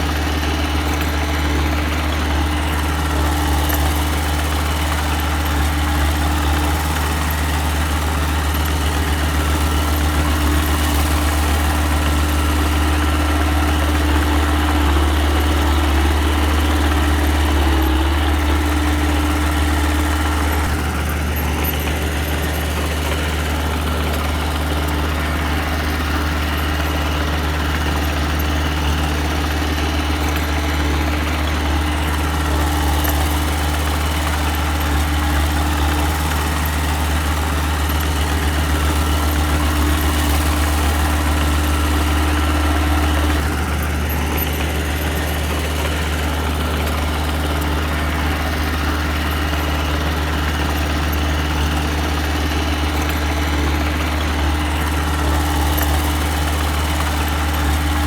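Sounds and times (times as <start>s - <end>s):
earthmoving machine engine running: 0.0s - 58.0s.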